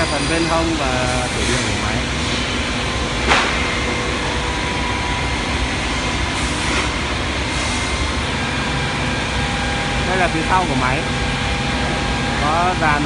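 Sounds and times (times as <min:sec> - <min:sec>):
machine motors and fans running: 0:00.0 - 0:13.0.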